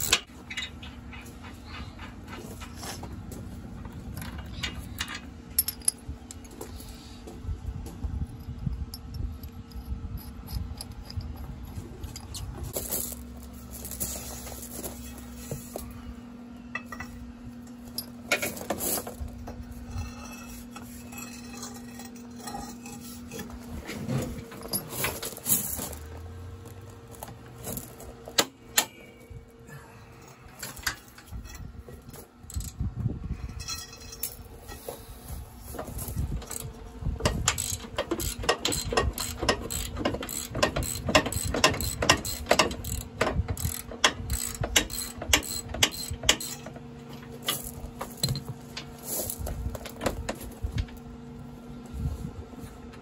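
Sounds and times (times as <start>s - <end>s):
tools and metal parts clinking: 0.0s - 6.6s, 8.4s - 15.8s, 16.7s - 29.2s, 30.2s - 32.8s, 33.4s - 51.1s.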